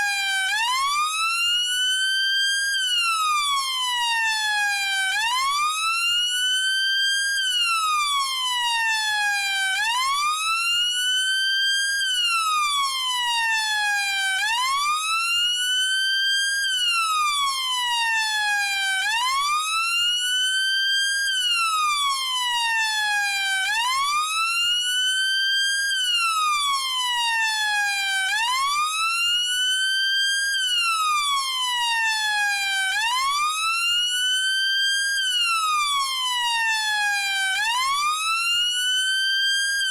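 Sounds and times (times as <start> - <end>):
police siren wailing: 0.0 - 1.8, 2.4 - 39.9.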